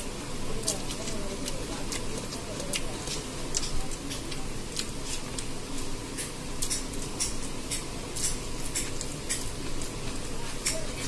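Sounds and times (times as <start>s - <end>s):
chewing: 0.5s - 11.0s
fingers eating from plastic plate: 0.5s - 11.0s.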